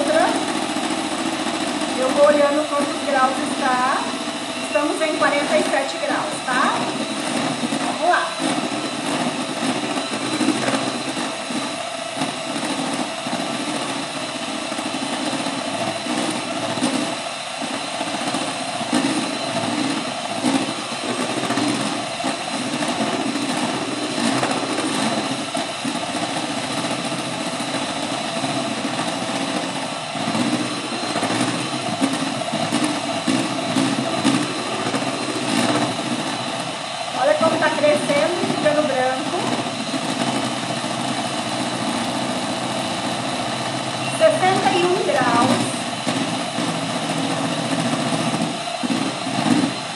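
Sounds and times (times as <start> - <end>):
electric mixer whisking: 0.0 - 49.9.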